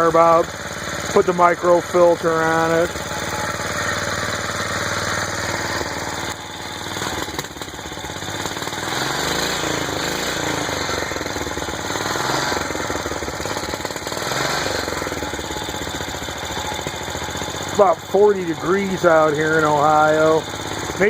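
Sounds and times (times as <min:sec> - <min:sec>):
small motor running: 0:02.0 - 0:21.0.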